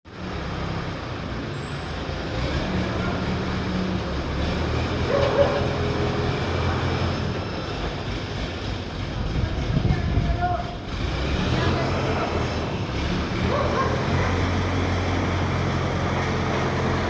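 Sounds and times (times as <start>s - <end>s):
heavy engine humming: 0.1s - 17.0s.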